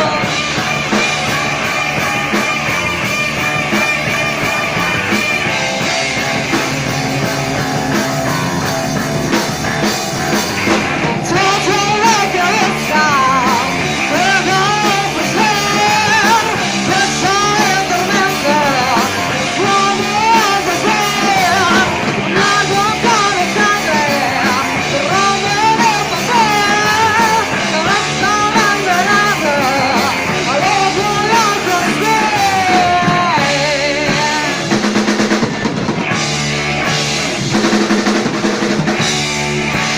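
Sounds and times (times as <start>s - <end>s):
person singing: 0.0s - 8.8s, 10.5s - 34.9s
live rock band playing: 0.0s - 39.9s.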